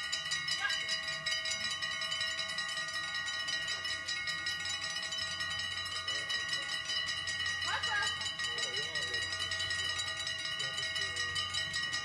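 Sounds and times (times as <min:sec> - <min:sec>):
level crossing warning bells ringing: 0:00.0 - 0:12.0.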